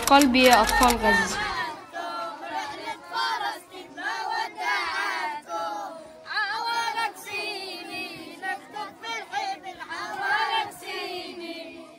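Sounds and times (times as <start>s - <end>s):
children chanting: 0.7s - 11.9s.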